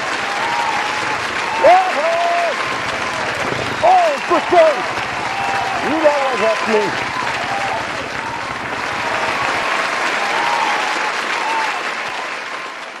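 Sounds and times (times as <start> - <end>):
crowd applauding: 0.0 - 13.0
faint cheering: 0.0 - 13.0.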